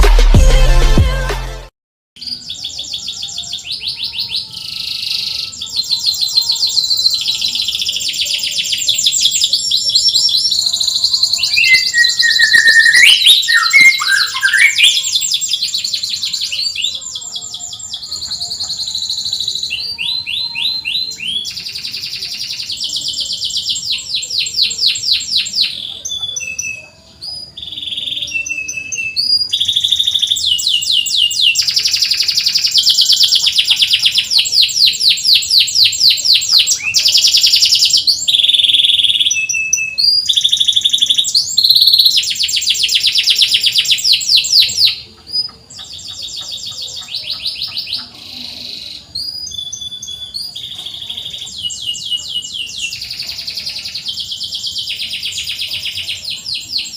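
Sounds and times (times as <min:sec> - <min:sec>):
canary singing: 0:02.2 - 0:56.9.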